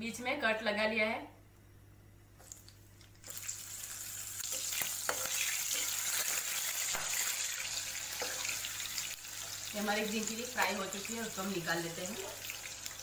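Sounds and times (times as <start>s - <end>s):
chillies sizzling in hot oil: 2.4s - 13.0s.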